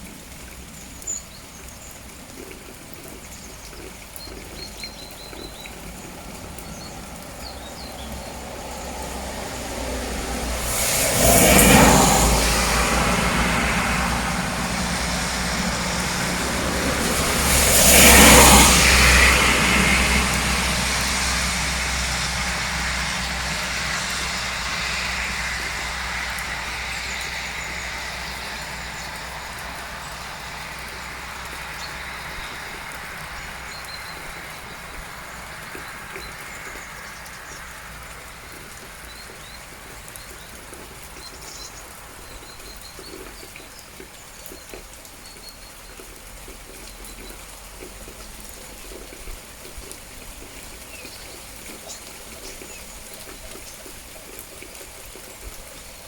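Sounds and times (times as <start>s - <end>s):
steady rain hiss: 0.0s - 56.0s
vehicle passing by: 5.2s - 56.0s.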